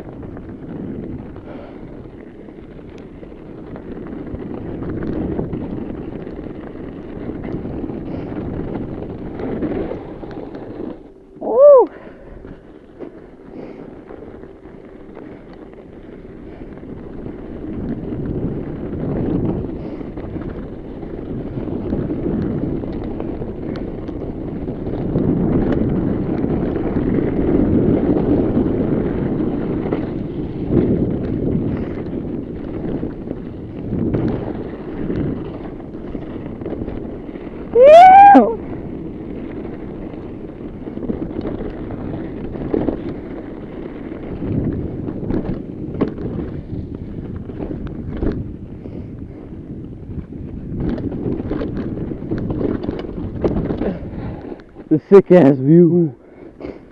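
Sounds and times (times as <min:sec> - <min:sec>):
bike tyre rumble: 0:00.0 - 0:56.9
wind buffeting microphone: 0:00.0 - 0:56.9.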